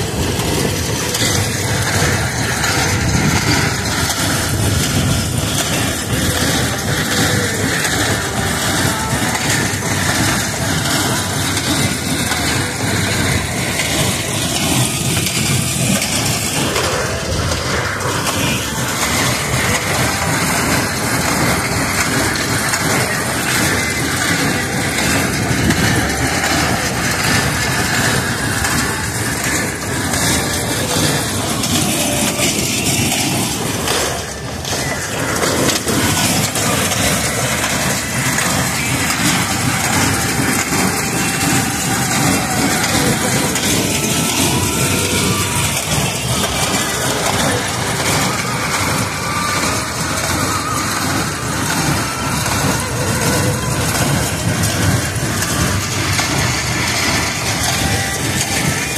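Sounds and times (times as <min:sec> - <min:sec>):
baler and tractor running: 0:00.0 - 0:58.9.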